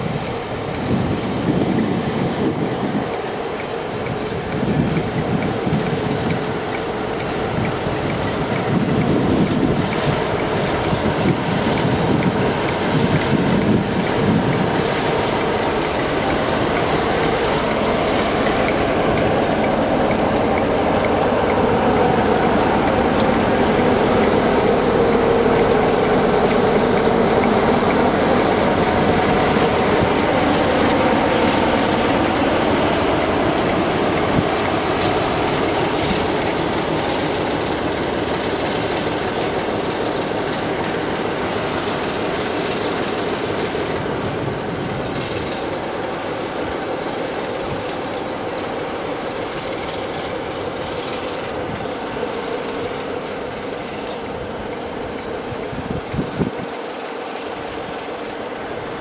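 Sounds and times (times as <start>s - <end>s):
locomotive approaching: 0.0s - 59.0s
train wheels rolling on rails: 0.0s - 59.0s.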